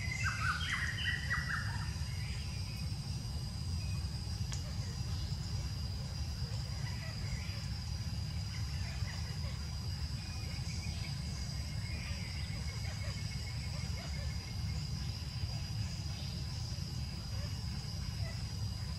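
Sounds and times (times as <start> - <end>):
insects high-pitched drone: 0.0 - 18.9.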